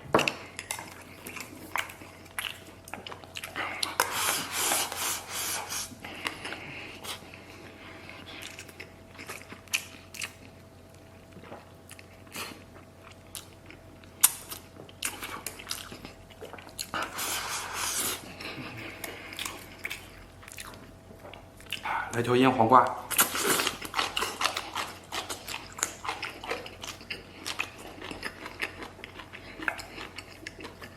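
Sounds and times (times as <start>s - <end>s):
chewing and crunching food: 0.0s - 22.3s, 23.1s - 30.9s.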